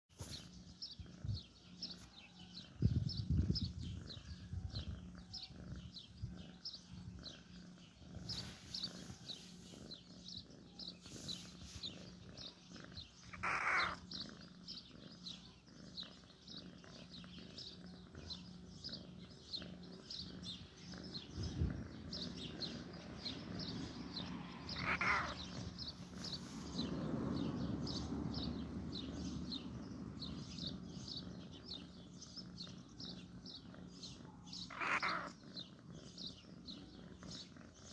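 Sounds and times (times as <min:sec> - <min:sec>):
bird chirping: 0:00.2 - 0:37.9.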